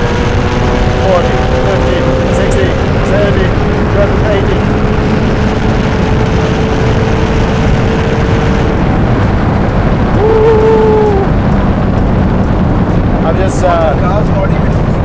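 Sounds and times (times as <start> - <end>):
road and wind noise: 0.0 - 15.0
sports car engine rumbling: 0.0 - 15.0.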